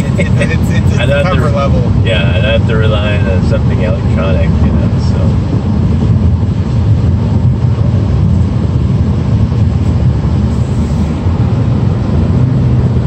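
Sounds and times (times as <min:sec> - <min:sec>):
car engine cruising: 0:00.0 - 0:13.0
car tyre noise: 0:00.0 - 0:13.0.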